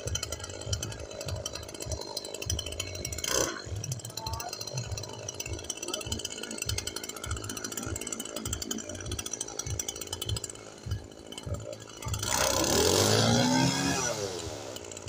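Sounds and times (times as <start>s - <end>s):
brushcutter engine revving: 0.0s - 15.0s.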